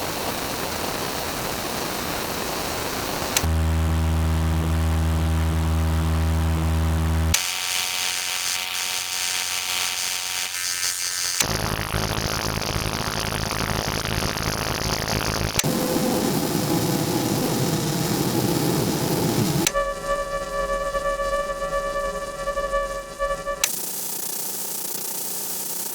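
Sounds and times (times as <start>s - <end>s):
dense static: 0.0s - 25.9s
buzzing electrical hum: 3.4s - 24.6s.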